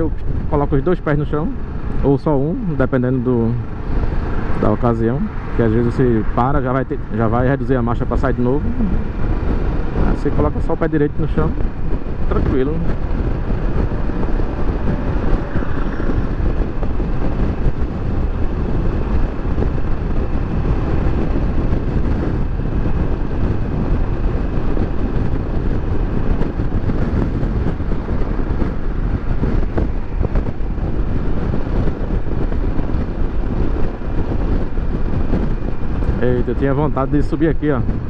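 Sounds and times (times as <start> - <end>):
motorcycle engine and tyre noise: 0.0 - 38.0
wind rushing on microphone: 0.0 - 38.0.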